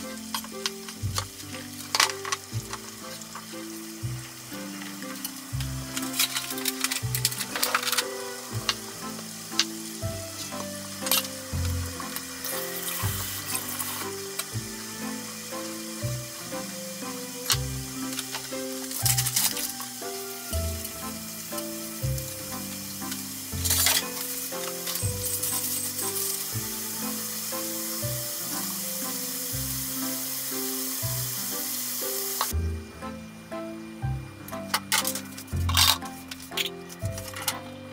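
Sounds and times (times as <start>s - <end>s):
food sizzling in a frying pan: 0.0s - 32.6s, 34.7s - 37.6s
soft background music: 0.0s - 37.9s.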